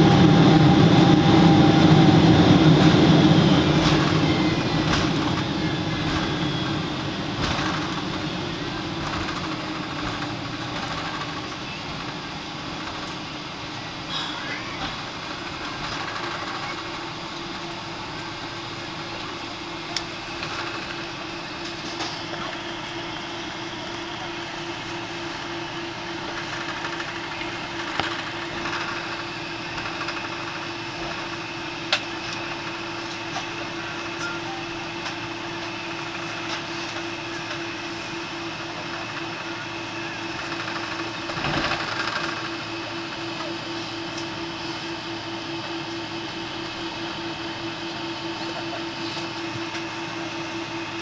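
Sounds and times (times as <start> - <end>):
airliner cabin rumble and hum: 0.0 - 51.0.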